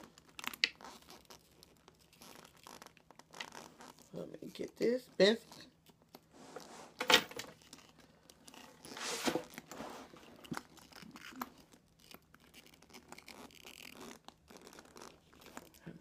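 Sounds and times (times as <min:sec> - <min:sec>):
handbag rustling and scraping: 0:00.8 - 0:04.1, 0:06.2 - 0:16.0.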